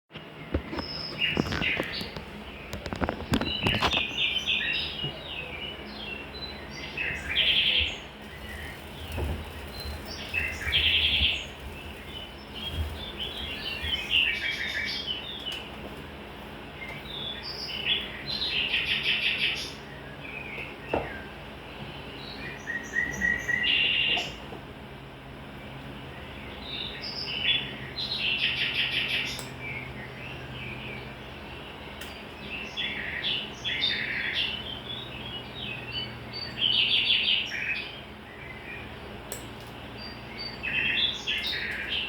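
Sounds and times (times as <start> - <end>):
small birds chirping: 0.2 - 42.0.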